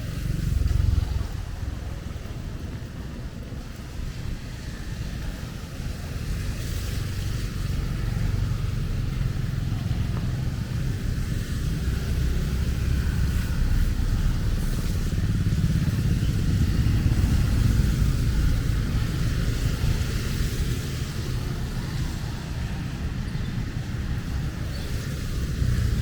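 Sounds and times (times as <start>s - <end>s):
rain hissing: 0.0s - 26.0s
traffic rumbling past: 0.0s - 26.0s.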